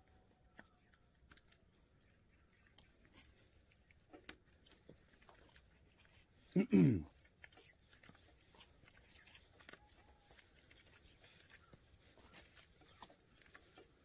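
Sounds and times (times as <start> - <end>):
small ticks and rustles: 0.0 - 14.0.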